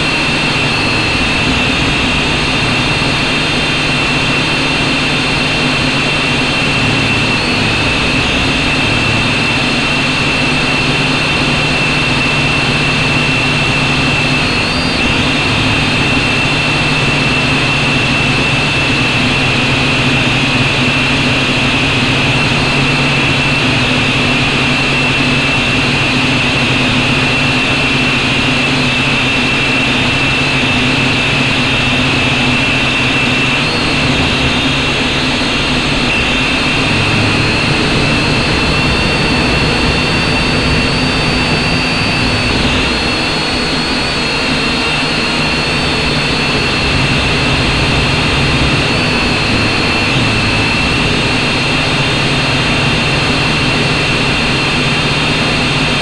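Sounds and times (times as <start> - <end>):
higher tone: 0.0 - 20.9, 31.0 - 55.7
drone motors whining: 0.0 - 56.0.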